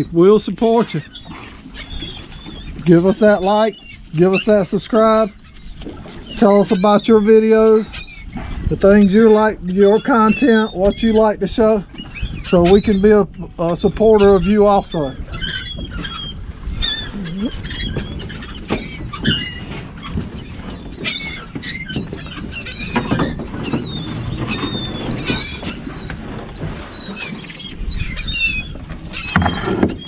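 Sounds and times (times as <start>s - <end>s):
gulls calling: 0.0s - 30.0s
low rumble of wind and water: 0.0s - 30.0s.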